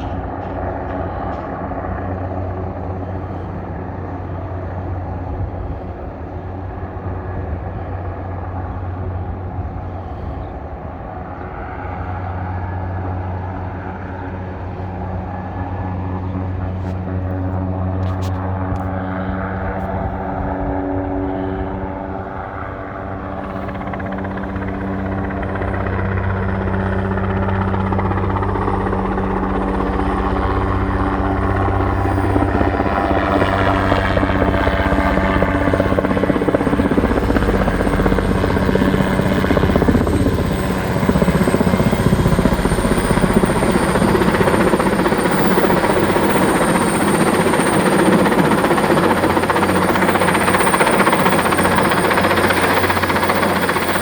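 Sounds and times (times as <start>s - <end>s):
helicopter rotor and engines: 0.0s - 54.0s
high turbine whine: 0.0s - 54.0s.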